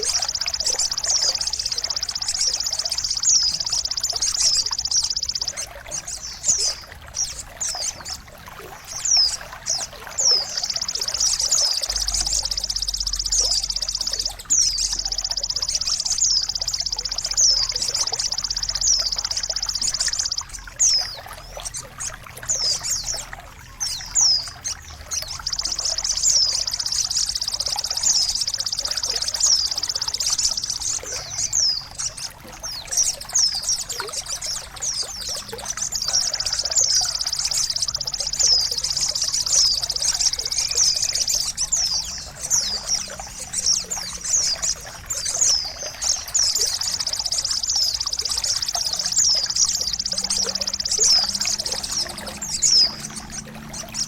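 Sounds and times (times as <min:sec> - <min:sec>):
songbird trilling: 0:00.0 - 0:54.0
trickling water: 0:00.0 - 0:54.0.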